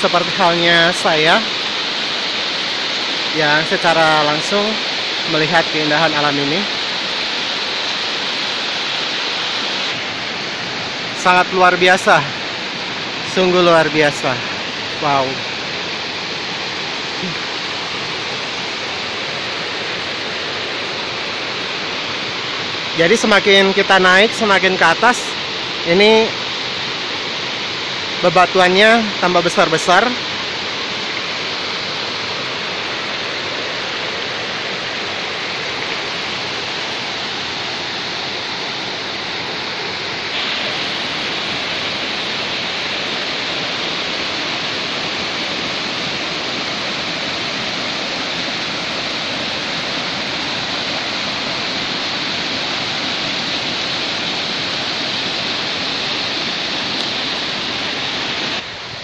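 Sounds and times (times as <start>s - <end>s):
white water rushing over rock: 0.0s - 59.0s.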